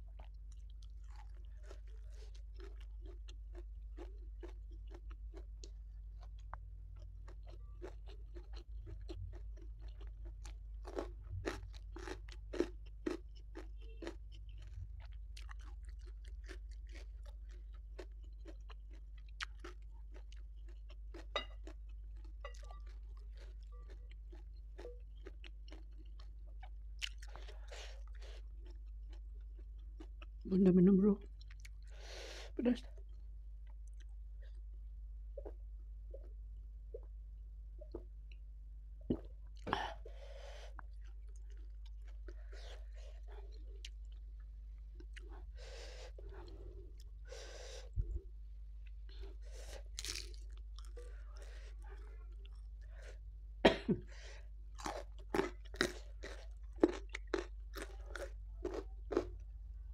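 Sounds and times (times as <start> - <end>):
chewing with crunching: 0.0 - 30.5, 31.2 - 32.0, 32.8 - 34.7, 39.1 - 53.3, 54.1 - 59.7
low steady hum: 0.0 - 59.9.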